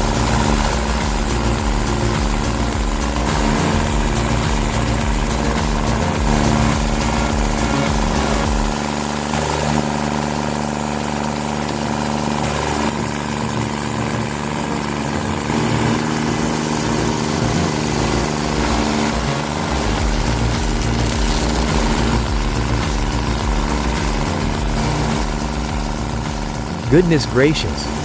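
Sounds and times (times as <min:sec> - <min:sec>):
machine engine running: 0:00.0 - 0:28.0.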